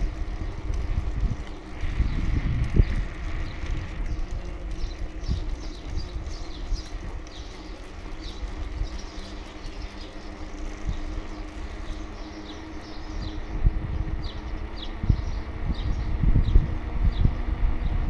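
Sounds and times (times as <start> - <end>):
bicycle road and wind rumble: 0.0 - 18.0
small birds chirping: 0.0 - 18.0.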